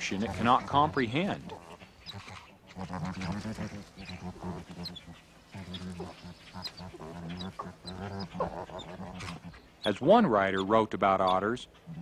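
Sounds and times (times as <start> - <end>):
otters chirping and squeaking: 0.0 - 12.0.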